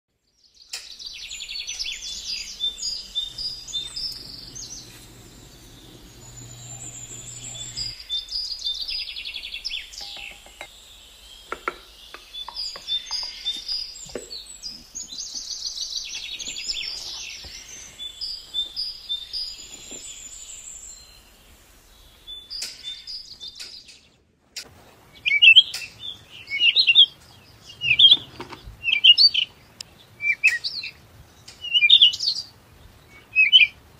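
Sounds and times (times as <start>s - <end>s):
songbirds chirping trilled phrases: 0.1s - 33.9s.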